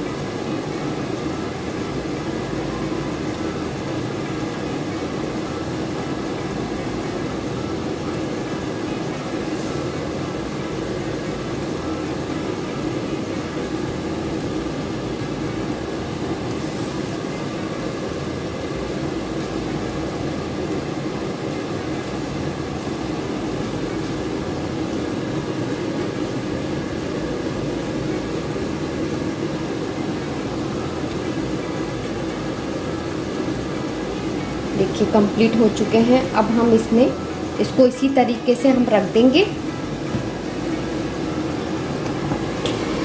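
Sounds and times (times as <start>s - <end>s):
fan whirring: 0.0s - 43.0s.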